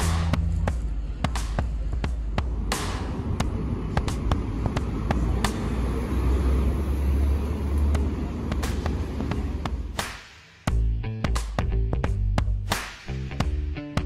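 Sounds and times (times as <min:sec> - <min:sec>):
low street rumble: 0:00.0 - 0:14.0.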